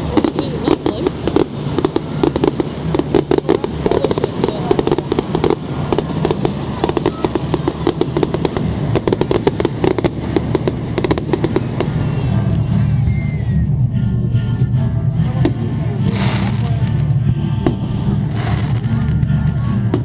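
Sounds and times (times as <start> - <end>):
fireworks bangs and crackles: 0.0 - 14.3, 15.0 - 20.0
music playing: 0.0 - 20.0.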